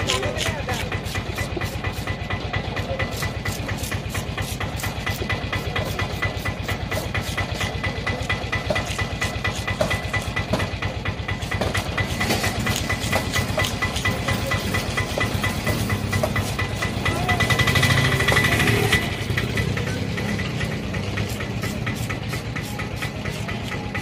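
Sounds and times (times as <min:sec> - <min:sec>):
knife scraping fish scales: 0:00.0 - 0:02.3, 0:03.0 - 0:10.5, 0:11.4 - 0:19.0, 0:20.6 - 0:24.0
engine running steadily: 0:00.0 - 0:24.0.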